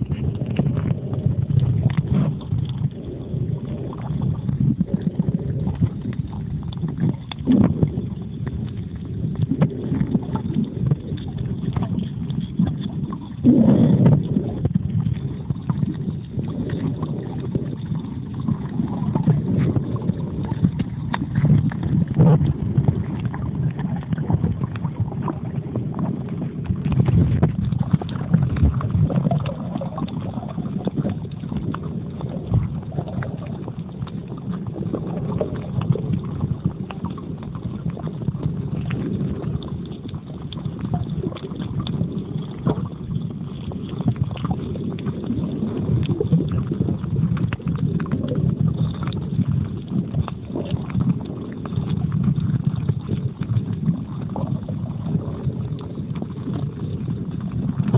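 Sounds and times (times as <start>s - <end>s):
muffled underwater rumble: 0.0s - 57.9s
small irregular clicks and crackles: 0.0s - 57.9s.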